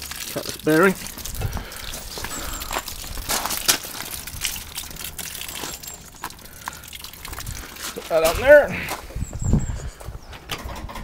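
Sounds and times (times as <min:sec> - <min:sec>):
water trickling onto gravel: 0:00.0 - 0:09.2.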